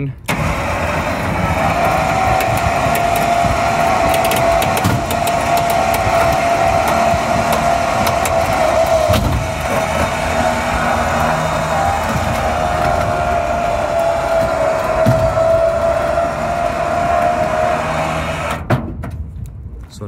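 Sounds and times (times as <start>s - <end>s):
electric winch whining: 0.3s - 18.7s.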